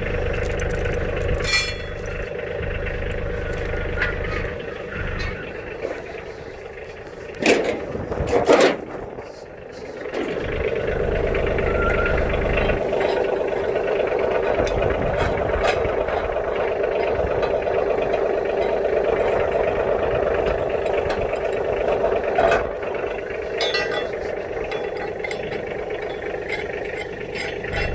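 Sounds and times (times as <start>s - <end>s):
tractor engine running: 0.0s - 27.9s.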